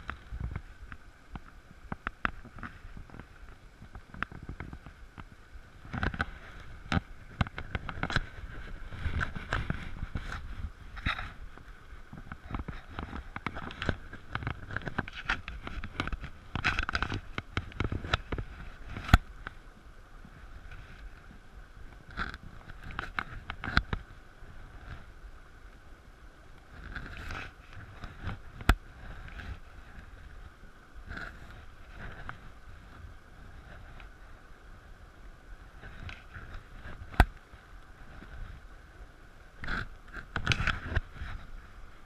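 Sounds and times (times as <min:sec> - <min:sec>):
fishing rod rustling and knocking: 0:00.0 - 0:25.2, 0:26.6 - 0:34.2, 0:35.6 - 0:42.0.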